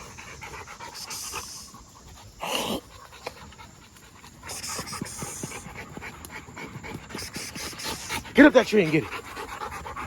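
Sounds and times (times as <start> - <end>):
dogs panting: 0.0 - 10.0.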